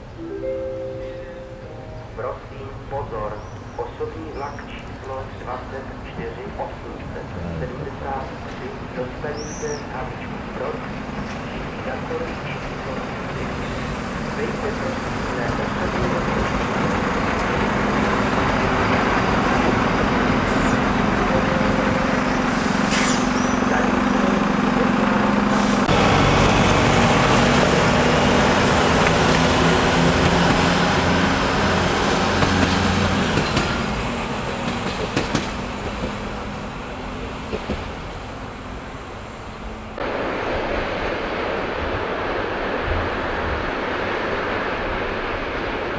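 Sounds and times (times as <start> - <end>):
diesel railcar engine hum: 0.0 - 45.9.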